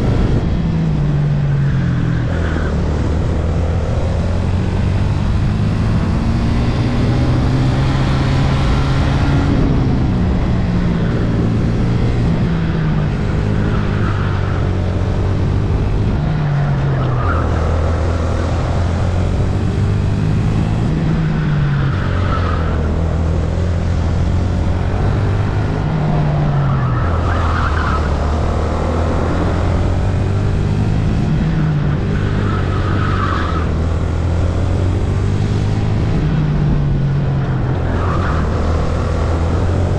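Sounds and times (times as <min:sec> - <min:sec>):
kart engine revving: 0:02.0 - 0:39.9.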